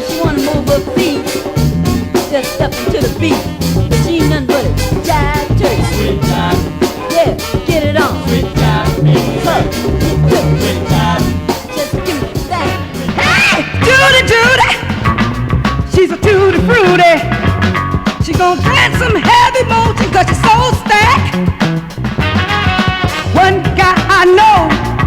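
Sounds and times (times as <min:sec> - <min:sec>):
funk music with singing: 0:00.0 - 0:25.0.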